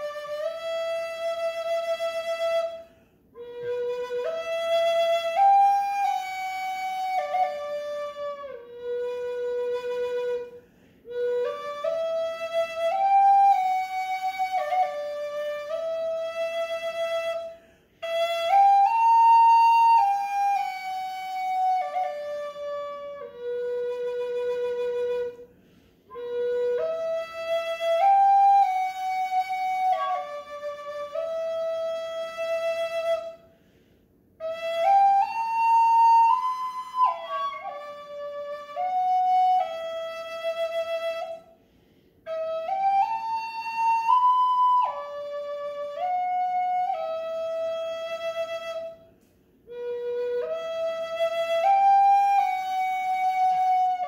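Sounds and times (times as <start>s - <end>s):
wooden flute melody: 0.0s - 54.0s.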